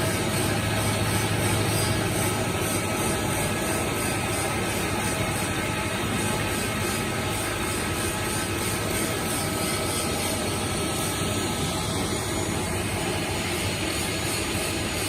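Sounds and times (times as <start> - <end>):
heavy machinery droning: 0.0 - 15.0
high whine: 0.0 - 15.0.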